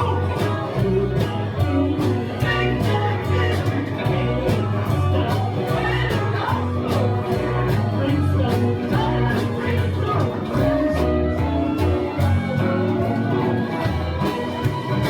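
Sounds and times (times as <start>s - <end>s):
bass line: 0.0s - 15.0s
drums with cymbal hits: 0.0s - 15.0s
guitar or voice: 0.0s - 15.0s.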